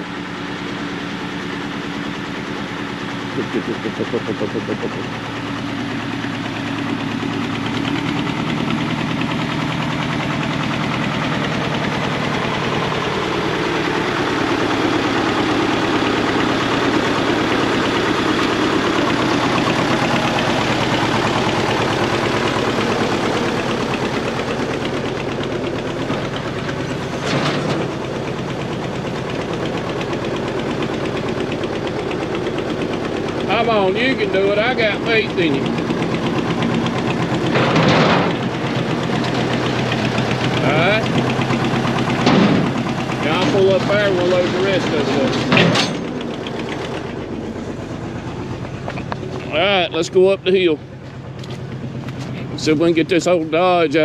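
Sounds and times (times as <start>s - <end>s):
diesel tractor engine knocking: 0.0s - 54.0s.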